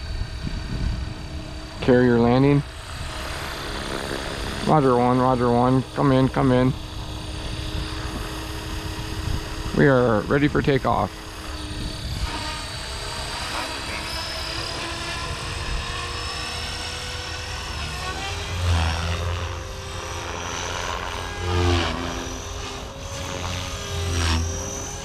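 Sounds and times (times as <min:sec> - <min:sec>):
deep rotor sound: 0:00.0 - 0:25.0
rc helicopter motor whine: 0:00.0 - 0:25.0.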